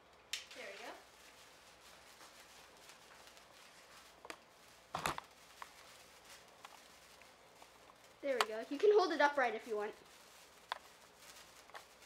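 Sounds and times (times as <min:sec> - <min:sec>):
sparkler fizzing crackle: 0:00.3 - 0:12.0.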